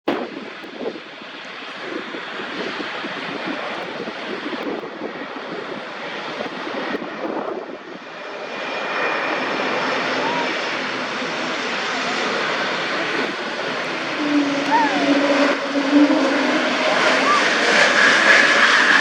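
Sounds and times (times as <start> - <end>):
jet engine noise: 0.1 - 19.0.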